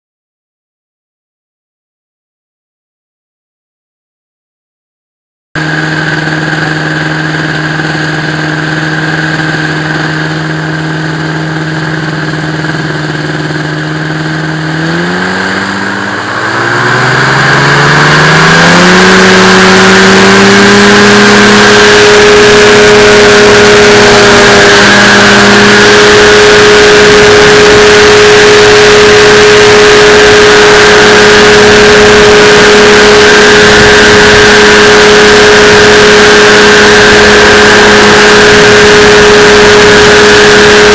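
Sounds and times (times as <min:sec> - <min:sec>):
paraglider engine and propeller droning: 0:05.6 - 0:40.9.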